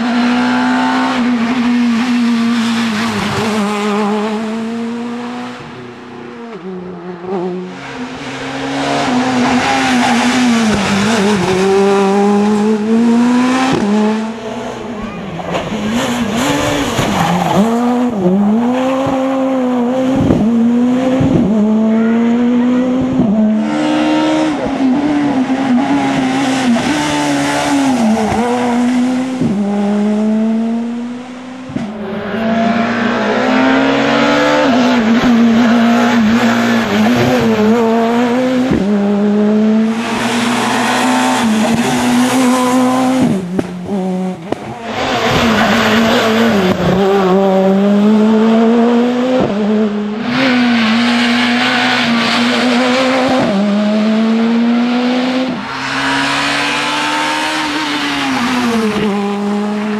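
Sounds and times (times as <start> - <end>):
rally car engine at full throttle: 0.0 - 59.9.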